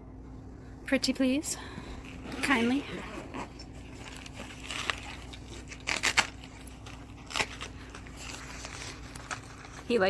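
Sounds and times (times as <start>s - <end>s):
faint steady hum: 0.0s - 10.0s
rustling of bag: 1.9s - 10.0s.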